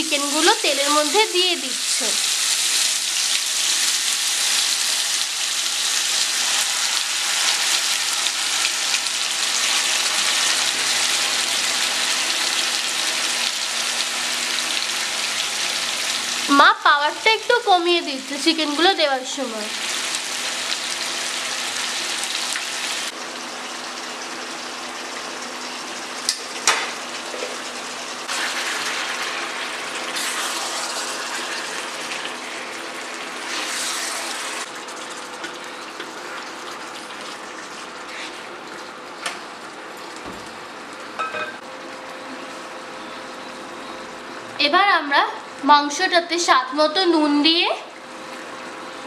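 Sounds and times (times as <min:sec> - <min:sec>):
chicken sizzling in hot oil: 0:00.0 - 0:40.1.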